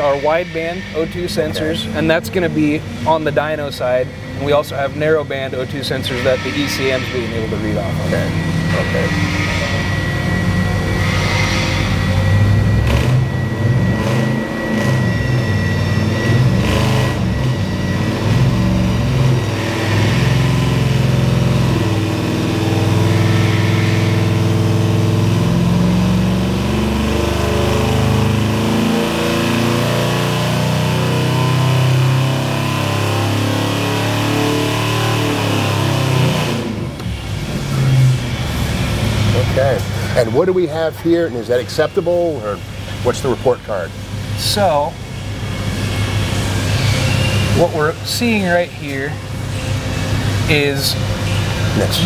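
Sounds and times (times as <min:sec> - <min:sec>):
engine running on a dyno: 0:00.0 - 0:52.0.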